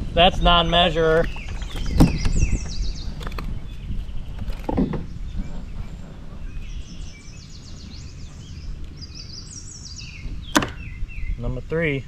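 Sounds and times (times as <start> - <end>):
songbird singing: 0.0 - 12.0
steady low rumble: 0.0 - 12.0.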